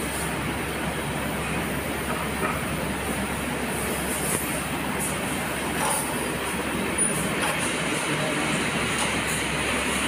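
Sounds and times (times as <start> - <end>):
winding machines hissing and humming: 0.0 - 10.0.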